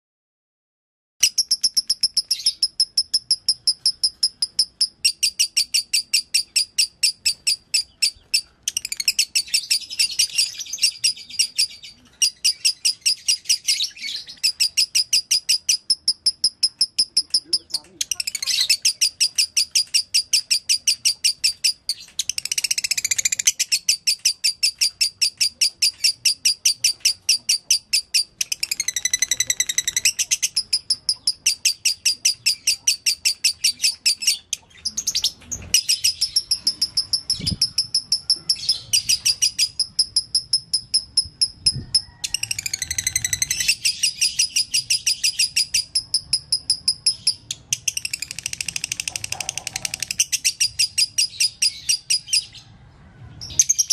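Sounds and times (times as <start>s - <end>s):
lovebird chirping: 1.2s - 52.7s, 53.4s - 53.9s.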